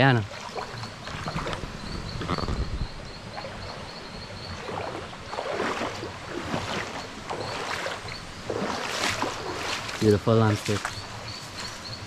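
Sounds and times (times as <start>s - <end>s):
flowing water rushing: 0.0s - 12.0s
footsteps splashing in stream: 0.2s - 2.5s, 4.5s - 11.9s.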